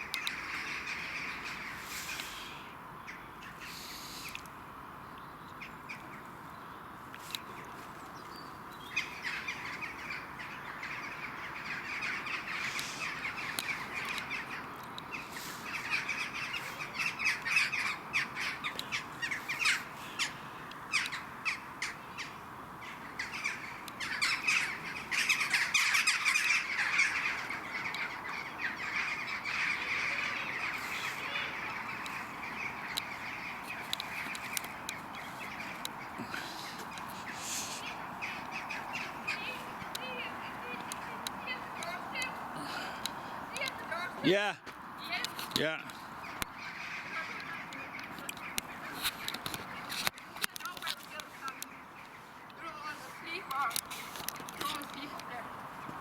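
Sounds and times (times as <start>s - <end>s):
flock of birds calling: 0.0s - 56.0s.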